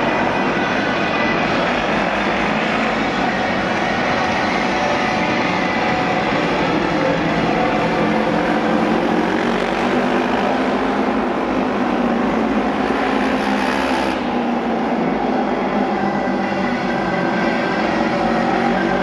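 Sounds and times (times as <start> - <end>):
motorcycle engines racing: 0.0 - 19.0.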